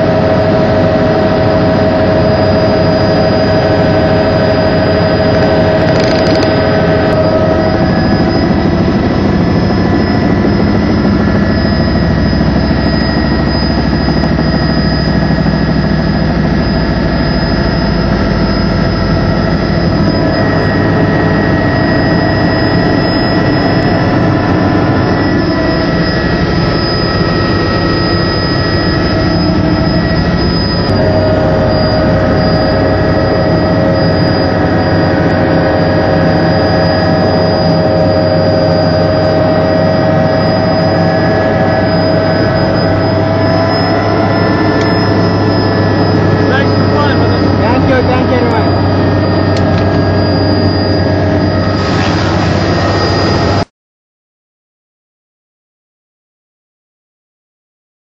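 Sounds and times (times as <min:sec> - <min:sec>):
helicopter engine and rotor drone: 0:00.0 - 0:53.7.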